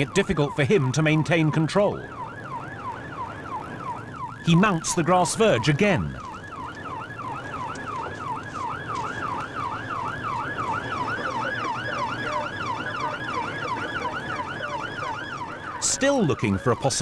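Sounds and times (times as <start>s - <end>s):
police siren yelping: 0.0s - 17.0s.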